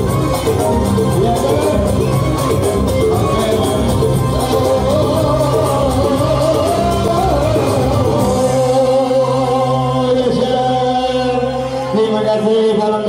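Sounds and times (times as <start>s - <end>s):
steady musical backing: 0.0s - 13.0s
person singing long notes: 0.7s - 12.8s.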